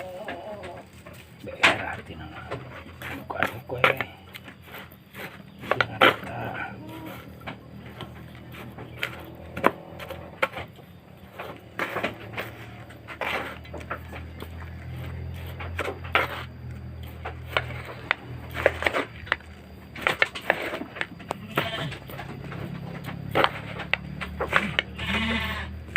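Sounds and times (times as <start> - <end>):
objects clicking and knocking: 0.2 - 25.0.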